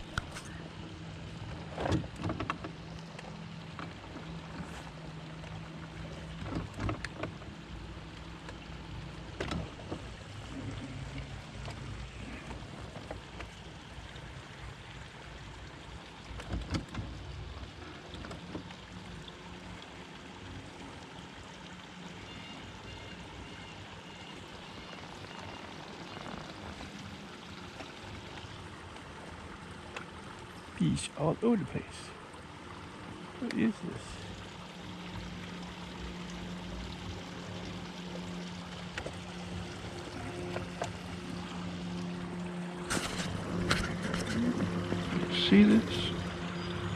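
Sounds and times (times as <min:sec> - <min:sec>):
water lapping around a boat: 0:00.0 - 0:46.9.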